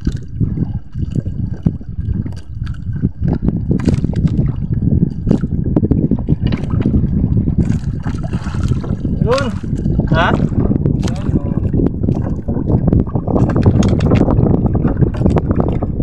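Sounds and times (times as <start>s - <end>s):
water lapping against boat hull: 0.0s - 16.0s.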